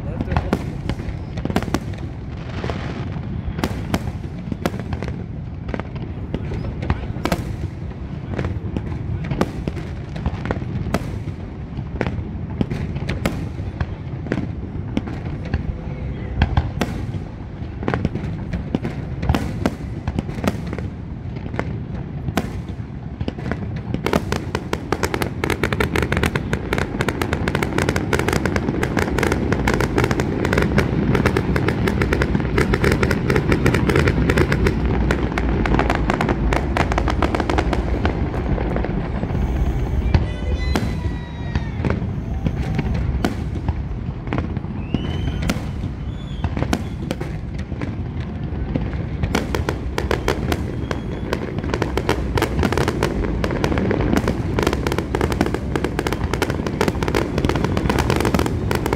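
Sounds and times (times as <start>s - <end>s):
firework bangs: 0.0s - 58.9s
firework crackling: 0.0s - 58.9s.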